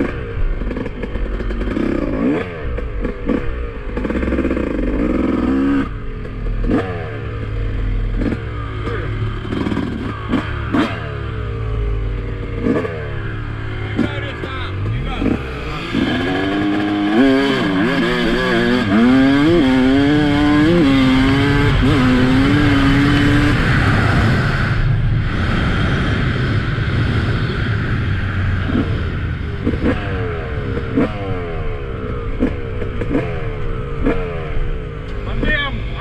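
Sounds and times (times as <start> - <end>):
two-stroke engine revving: 0.0 - 36.0.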